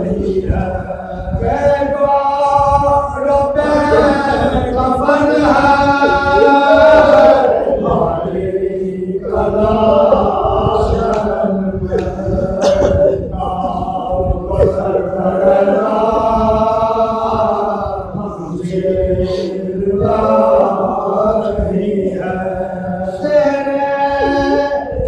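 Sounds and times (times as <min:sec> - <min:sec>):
men chanting a mourning lament: 0:00.0 - 0:25.0.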